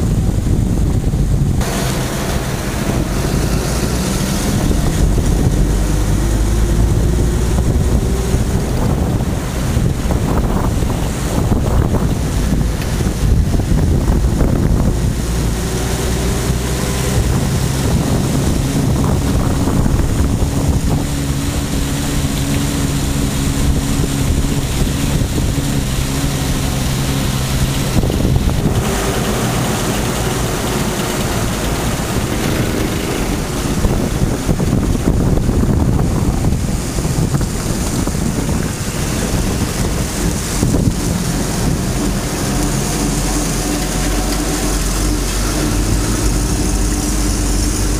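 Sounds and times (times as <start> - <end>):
truck engine running: 0.0 - 47.9
wind noise on microphone: 0.0 - 47.9.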